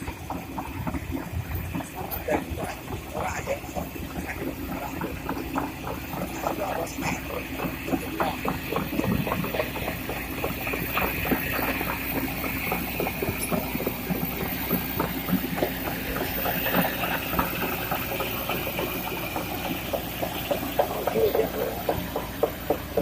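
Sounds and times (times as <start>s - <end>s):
diesel engine running with hiss: 0.0s - 23.0s
excavator knocks and clatter: 0.0s - 23.0s.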